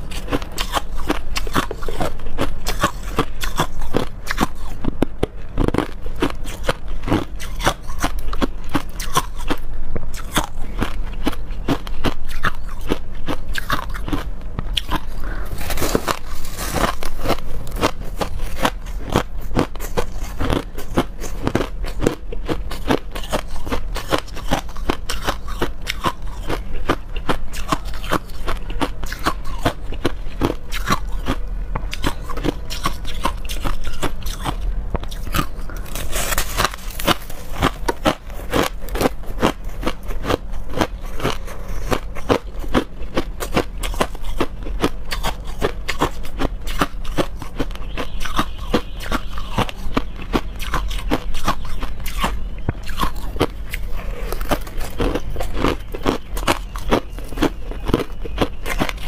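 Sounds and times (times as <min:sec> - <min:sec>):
crushed ice chewed crunching: 0:00.0 - 0:59.0.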